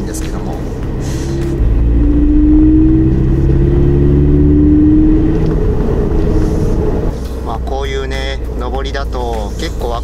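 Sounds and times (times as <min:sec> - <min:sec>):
car engine under heavy throttle: 0:00.0 - 0:10.0.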